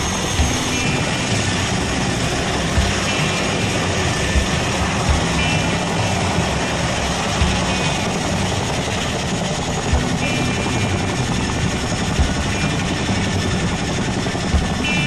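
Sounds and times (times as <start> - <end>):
low thumps: 0.0 - 14.9
helicopter rotor and turbine noise: 0.0 - 15.0.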